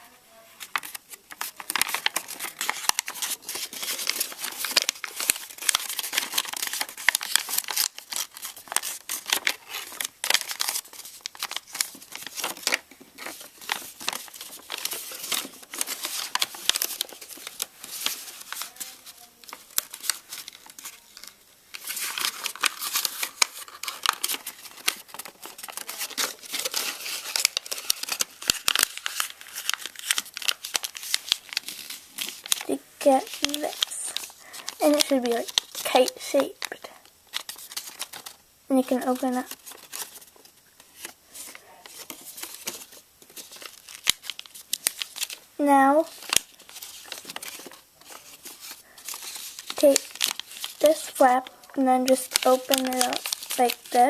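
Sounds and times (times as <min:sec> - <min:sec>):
paper crinkling as it is folded: 0:00.0 - 0:54.0.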